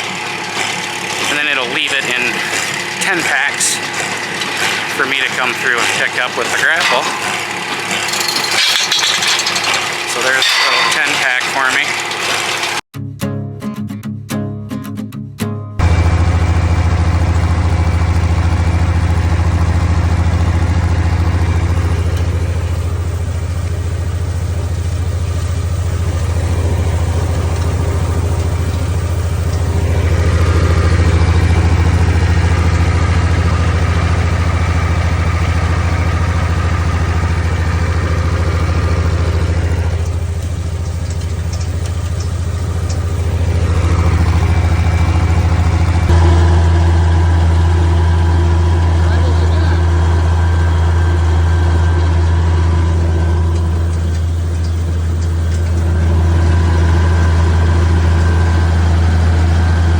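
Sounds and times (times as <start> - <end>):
diesel tractor engine running: 0.0 - 12.8, 15.8 - 59.9.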